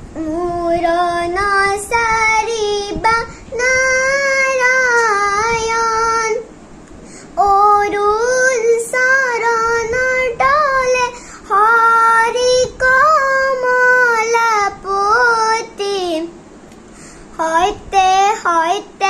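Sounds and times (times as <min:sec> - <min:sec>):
girl singing unaccompanied: 0:00.0 - 0:06.5, 0:07.3 - 0:16.4, 0:17.3 - 0:19.0.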